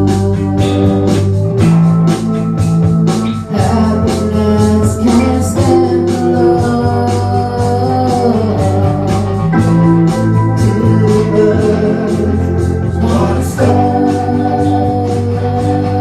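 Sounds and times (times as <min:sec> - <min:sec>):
band playing chords: 0:00.0 - 0:16.0
steady drum beat: 0:00.0 - 0:16.0.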